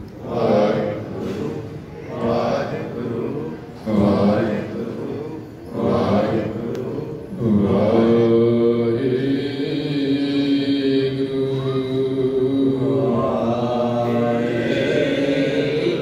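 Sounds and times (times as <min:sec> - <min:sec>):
man chanting a hymn: 0:00.2 - 0:16.0.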